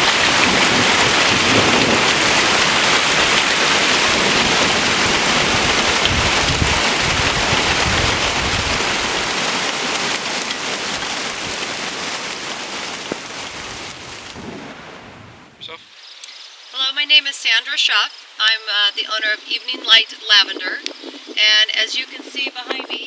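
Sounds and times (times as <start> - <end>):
heavy rain pouring: 0.0 - 15.8, 16.8 - 23.0.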